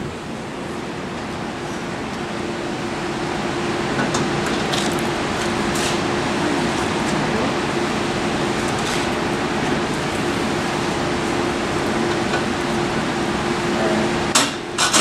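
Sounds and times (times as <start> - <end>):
rushing background noise: 0.0 - 14.9
steady mechanical hum: 0.0 - 15.0.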